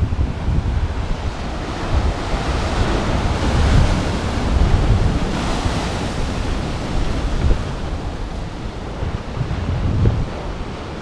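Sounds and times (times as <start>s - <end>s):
sea waves breaking against rocks: 0.0s - 11.0s
wind buffeting microphone: 0.0s - 11.0s.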